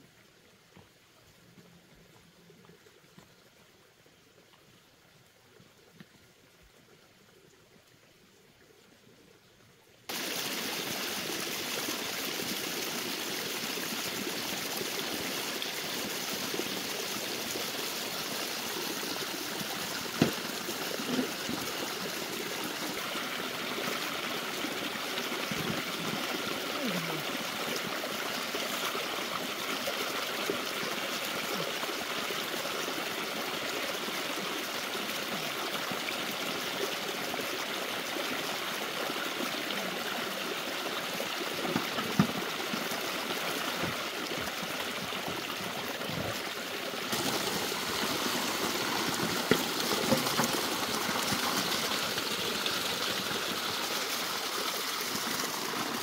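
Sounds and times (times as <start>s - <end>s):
stream of water splashing: 10.0s - 56.0s.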